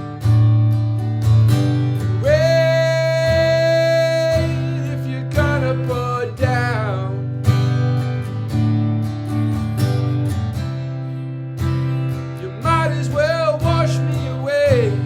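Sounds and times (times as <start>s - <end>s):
bending guitar melody notes: 0.0s - 15.0s
strummed acoustic guitar: 0.0s - 15.0s.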